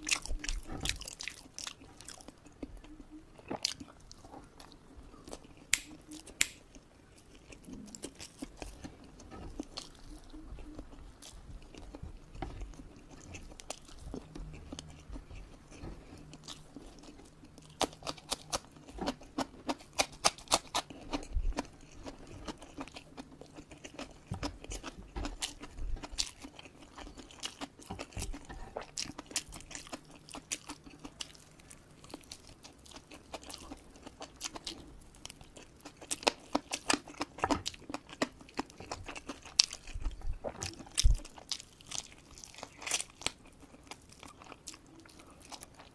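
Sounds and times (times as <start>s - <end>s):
chewing with wet mouth clicks: 0.0s - 45.9s
crunching cucumber bites: 0.0s - 45.9s.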